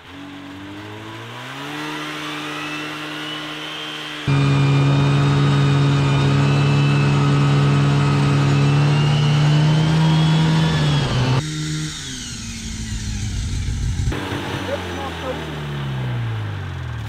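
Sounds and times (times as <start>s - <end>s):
snowmobile engine running hard: 0.0s - 11.4s, 12.9s - 17.0s.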